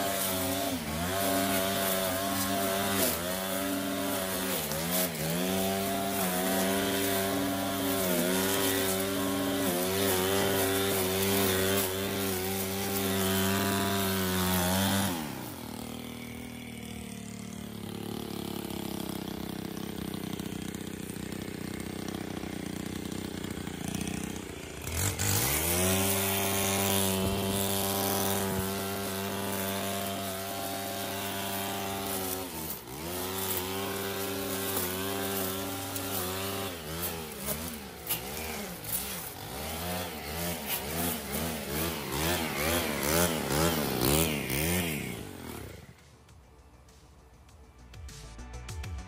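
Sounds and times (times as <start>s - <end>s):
string trimmer engine revving: 0.0s - 46.8s.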